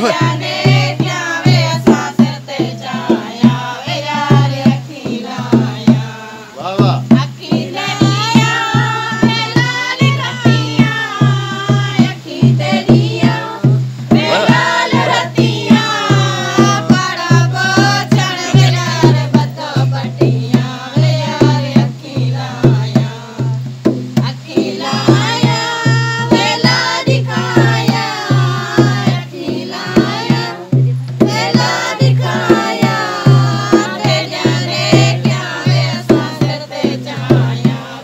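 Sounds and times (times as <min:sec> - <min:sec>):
barrel hand drum beat: 0:00.0 - 0:38.0
women singing folk song: 0:00.0 - 0:38.0.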